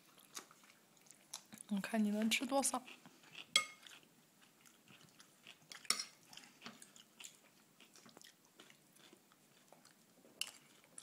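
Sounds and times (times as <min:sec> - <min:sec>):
child chewing cucumber: 0:00.0 - 0:11.0.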